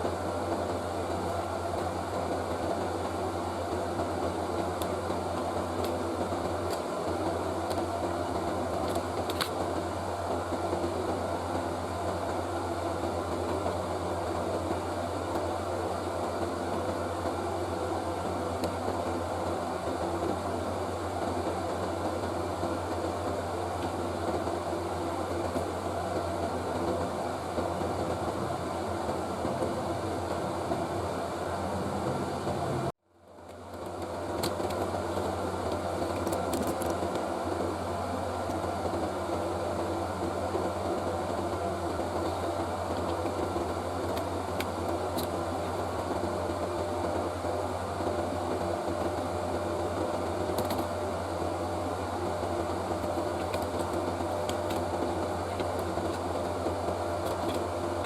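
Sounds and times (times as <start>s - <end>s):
fan whirring: 0.0s - 58.0s.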